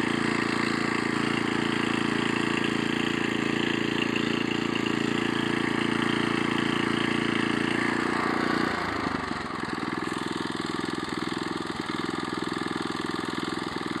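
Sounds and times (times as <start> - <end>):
small tractor engine running: 0.0 - 14.0.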